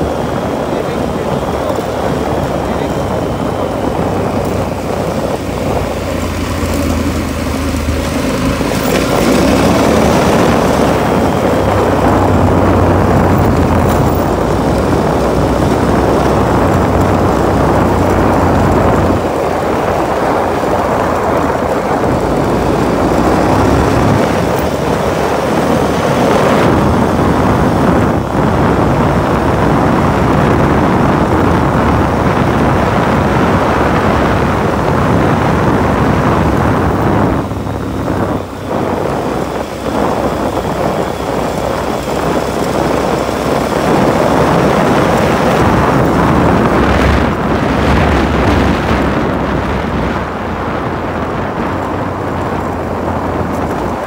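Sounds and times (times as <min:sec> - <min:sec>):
off-road vehicle engine running: 0:00.0 - 0:54.0
wind noise on microphone: 0:00.0 - 0:54.0.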